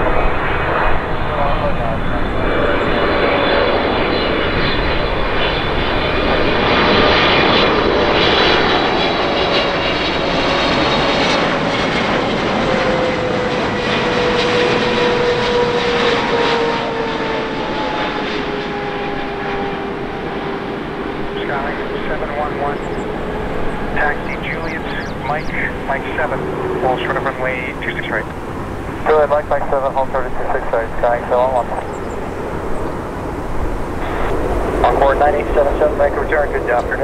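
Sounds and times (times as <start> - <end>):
airliner engines roaring: 0.0 - 37.0.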